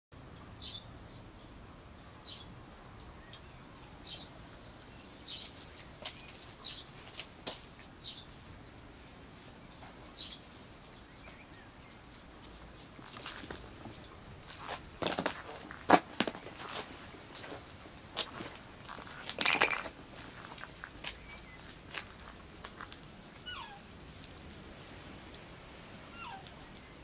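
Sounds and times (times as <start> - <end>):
faint steady background noise: 0.2 - 27.0
birds chirping: 0.5 - 25.5, 26.1 - 27.0.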